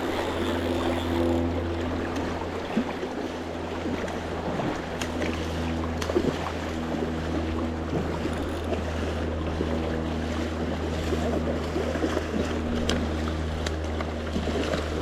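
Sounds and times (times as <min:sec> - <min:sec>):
constant low hum: 0:00.0 - 0:15.0
river water rushing: 0:00.0 - 0:15.0.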